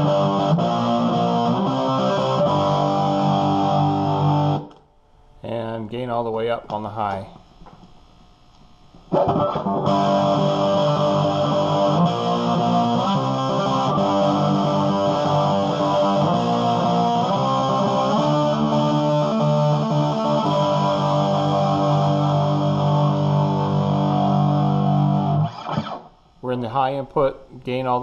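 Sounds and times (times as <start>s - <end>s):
distorted electric guitar chords: 0.0s - 4.9s, 8.8s - 26.4s.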